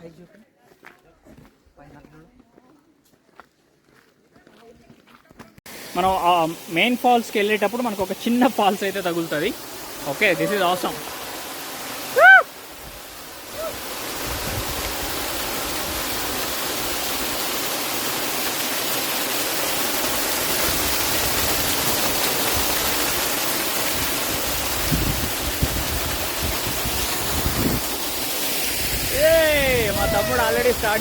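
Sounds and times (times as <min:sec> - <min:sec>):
waterfall rushing water: 0:05.7 - 0:31.0.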